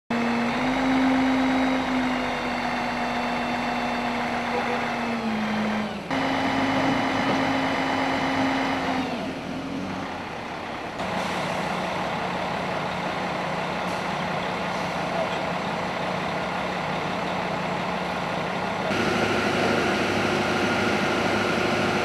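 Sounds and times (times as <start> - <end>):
fire truck engine humming: 0.1 - 22.0.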